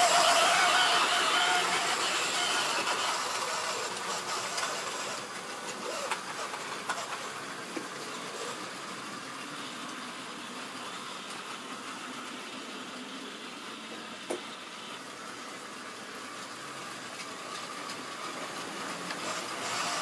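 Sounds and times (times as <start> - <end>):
model train motor whir: 0.0 - 20.0.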